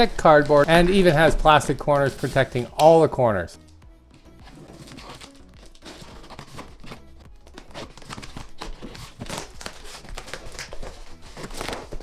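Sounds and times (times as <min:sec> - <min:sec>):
cardboard box and plastic rustling: 0:00.0 - 0:12.0.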